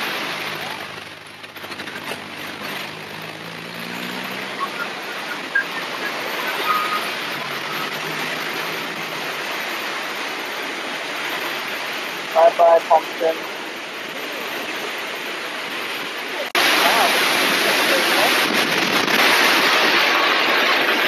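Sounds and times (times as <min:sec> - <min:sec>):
flood water rushing: 0:00.0 - 0:21.0.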